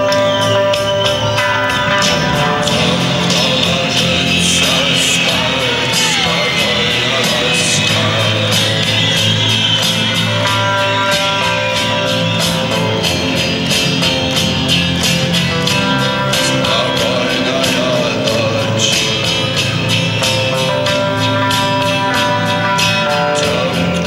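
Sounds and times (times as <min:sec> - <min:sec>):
electric guitar lines: 0:00.0 - 0:24.0
live rock band playing: 0:00.0 - 0:24.0.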